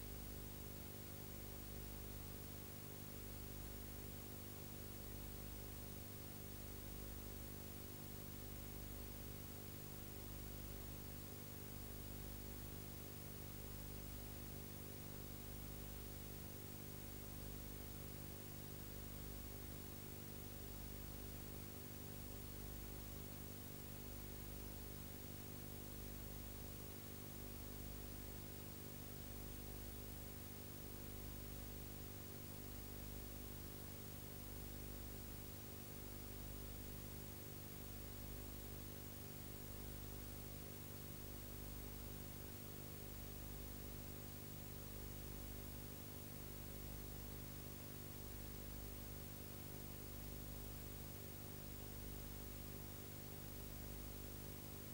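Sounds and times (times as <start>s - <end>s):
faint electrical hum with hiss: 0.0s - 54.9s.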